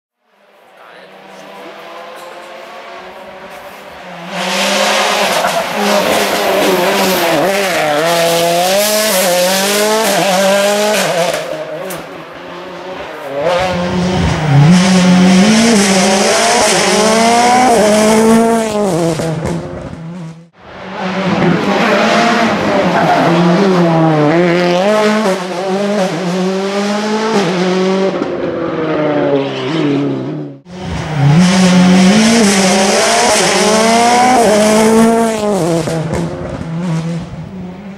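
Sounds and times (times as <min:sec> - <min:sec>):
rally car engines revving: 0:00.3 - 0:37.9.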